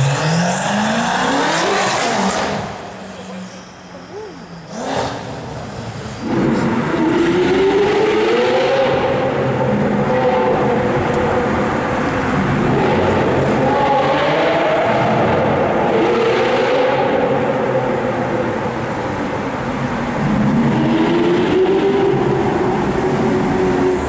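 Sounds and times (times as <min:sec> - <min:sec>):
car engines revving in tunnel: 0:00.0 - 0:24.0
road and exhaust rumble: 0:00.0 - 0:24.0.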